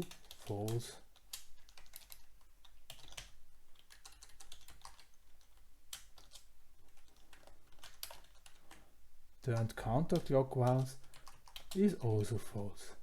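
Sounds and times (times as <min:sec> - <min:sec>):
typing on computer keyboard: 0:00.0 - 0:08.8, 0:09.4 - 0:12.3.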